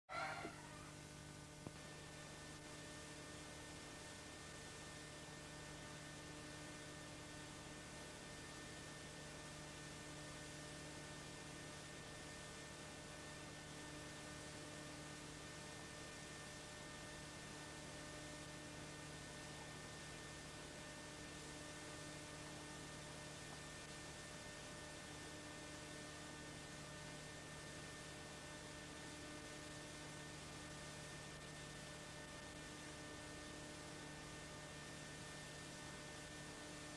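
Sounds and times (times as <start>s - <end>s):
electrical hum: 0.1s - 36.9s.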